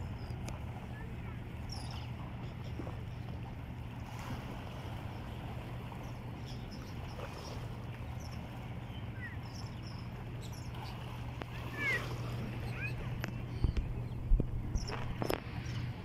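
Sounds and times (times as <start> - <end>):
seabird calls: 0.0 - 16.0
steady low hum: 0.0 - 16.0.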